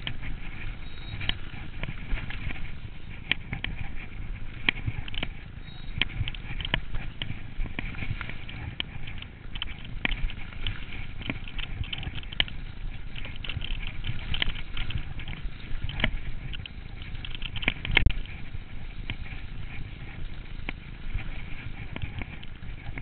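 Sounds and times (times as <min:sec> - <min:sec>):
bike clicking and rattling: 0:00.0 - 0:23.0
bike tyres rumbling on trail: 0:00.0 - 0:23.0.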